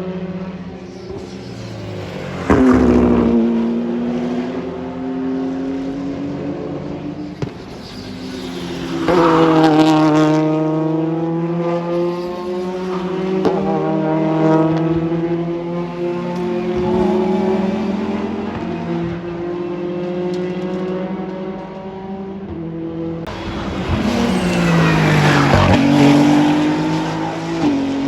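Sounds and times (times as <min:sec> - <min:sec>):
engine running: 0:00.0 - 0:28.0
race cars passing at speed: 0:00.0 - 0:28.0.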